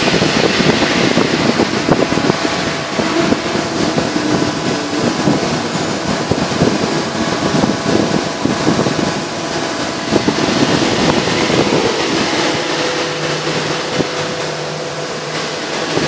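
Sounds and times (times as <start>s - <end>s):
faint hydraulic hum: 0.0s - 16.0s
injection moulding machine running: 0.0s - 16.0s.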